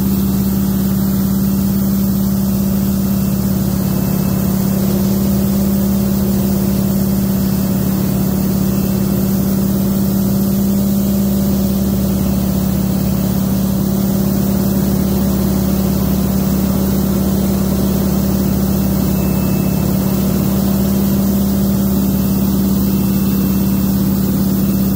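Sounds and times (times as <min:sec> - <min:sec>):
propeller aircraft engine droning: 0:00.0 - 0:24.9.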